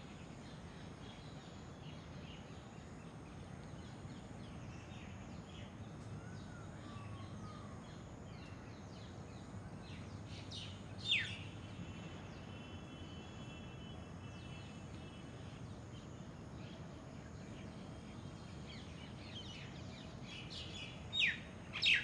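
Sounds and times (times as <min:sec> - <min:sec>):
small birds chirping: 0:00.1 - 0:11.6, 0:13.8 - 0:22.0.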